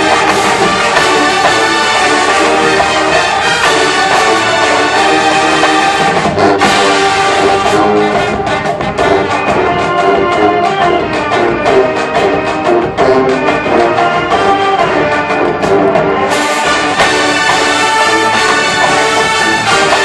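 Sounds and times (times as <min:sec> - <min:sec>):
brass held chords: 0:00.0 - 0:20.0
marching band playing: 0:00.0 - 0:20.0.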